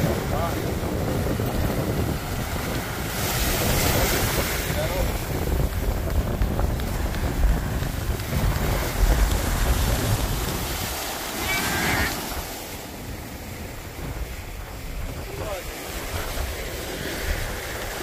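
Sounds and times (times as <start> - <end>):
waves washing up a beach: 0.0 - 18.0
wind buffeting microphone: 0.0 - 18.0.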